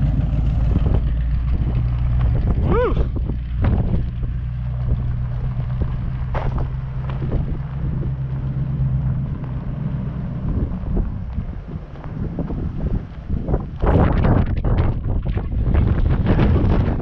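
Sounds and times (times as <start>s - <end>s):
car engine driving off: 0.0s - 17.0s
wind buffeting microphone: 0.0s - 17.0s.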